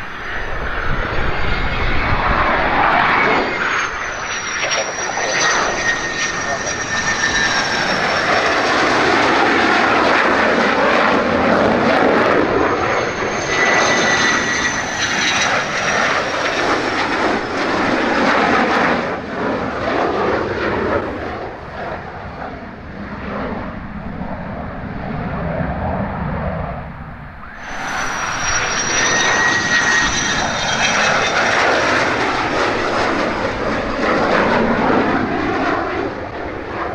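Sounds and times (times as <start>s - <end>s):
high jet engine whine: 0.0s - 36.9s
jet roar: 0.0s - 36.9s.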